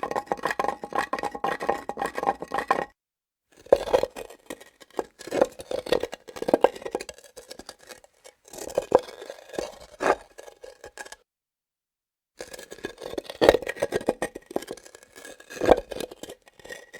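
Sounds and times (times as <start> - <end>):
objects scraping on stone: 0.0 - 3.0, 3.6 - 11.2, 12.4 - 16.9.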